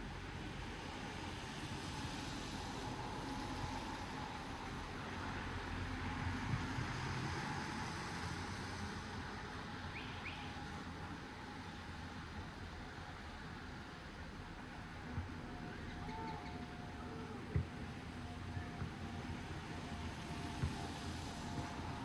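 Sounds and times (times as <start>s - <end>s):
light rain hiss: 0.0s - 22.0s.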